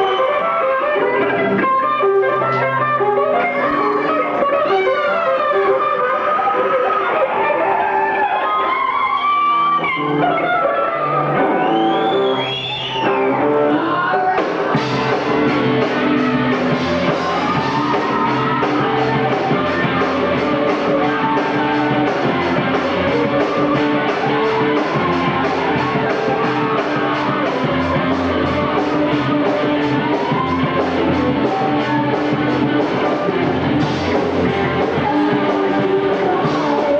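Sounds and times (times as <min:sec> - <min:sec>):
rock band with drums and cymbals: 0:00.0 - 0:36.9
rock guitar lead with bending notes: 0:00.0 - 0:36.9.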